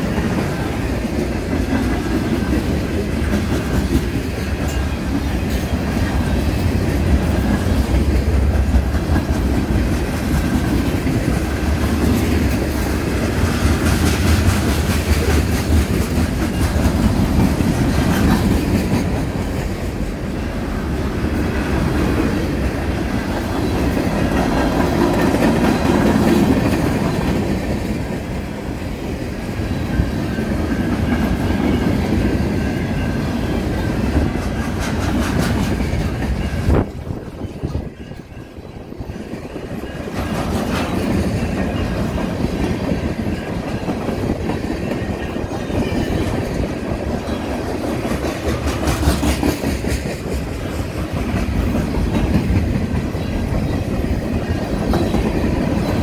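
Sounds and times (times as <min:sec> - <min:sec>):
freight train rumbling past: 0:00.0 - 0:56.0
steel wheels clacking on rails: 0:00.0 - 0:56.0.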